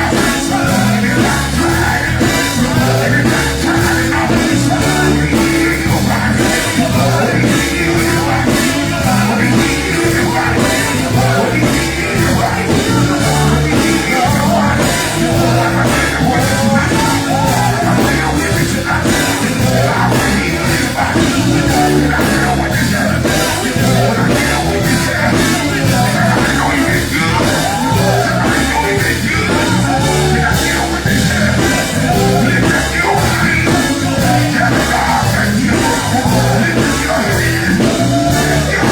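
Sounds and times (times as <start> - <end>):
band playing: 0.0 - 38.9
drum beat: 0.0 - 38.9
group singing gospel: 0.0 - 38.9.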